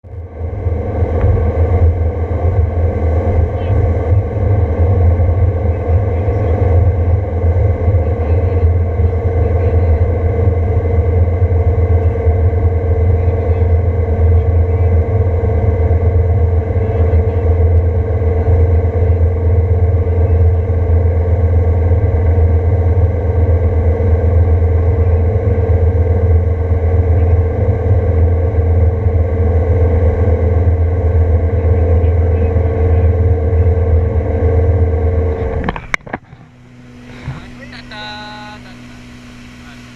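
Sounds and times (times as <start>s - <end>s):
motorboat engine rumbling: 0.0s - 39.9s.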